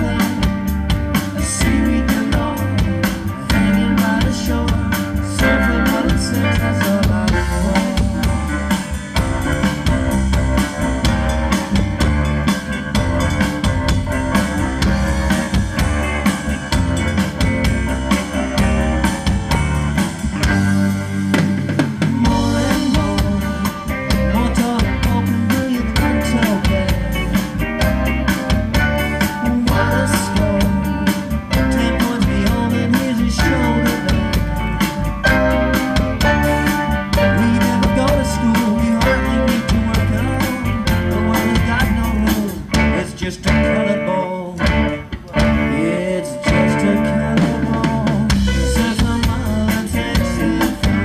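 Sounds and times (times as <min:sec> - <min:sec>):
bass guitar: 0:00.0 - 0:51.0
drum kit: 0:00.0 - 0:51.0
electric guitar: 0:00.0 - 0:51.0.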